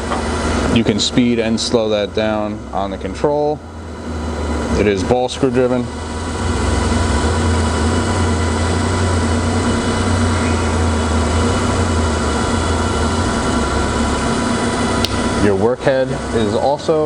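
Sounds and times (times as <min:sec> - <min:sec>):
faint machine whines: 0:00.0 - 0:17.0
grinding machine hum: 0:00.0 - 0:17.0.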